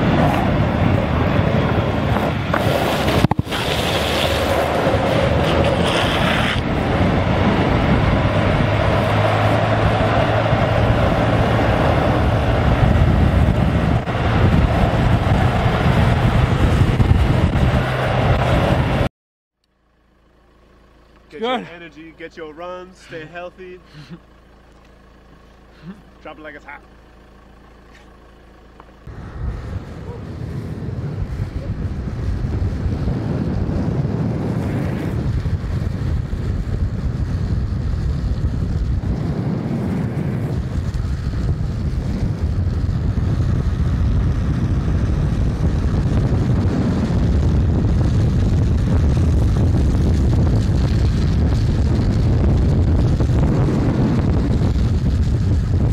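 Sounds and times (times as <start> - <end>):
skateboard wheels rolling on asphalt: 0.0 - 19.1, 27.1 - 55.9
wind rushing over microphone: 0.0 - 19.1, 29.1 - 55.9.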